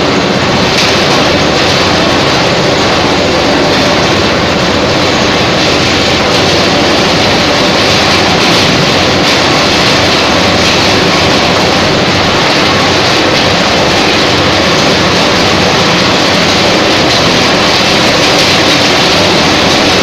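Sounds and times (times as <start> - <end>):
husk-peeling machine running: 0.0 - 20.0.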